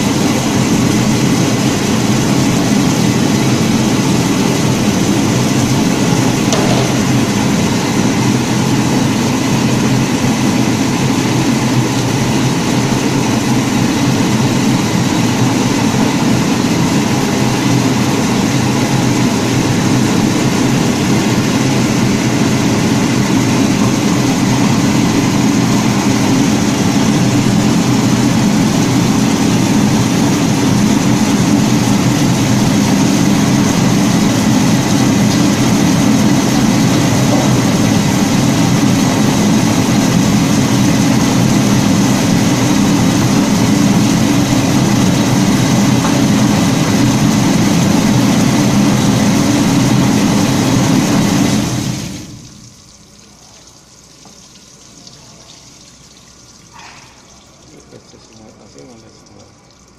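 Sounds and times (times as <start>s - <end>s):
washing machine hum: 0.0s - 59.9s.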